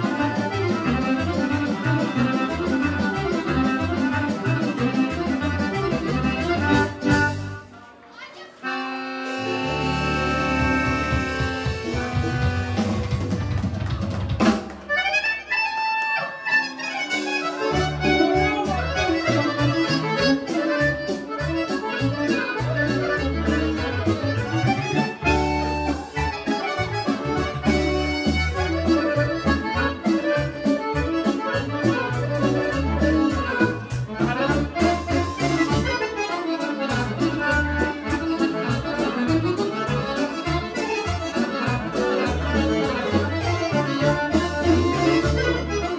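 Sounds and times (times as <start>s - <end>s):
bass: 0.0s - 7.7s, 9.2s - 45.9s
drums: 0.0s - 7.7s, 9.2s - 15.4s, 17.1s - 45.9s
accordion: 0.0s - 45.9s
folk band playing dance music: 0.0s - 45.9s.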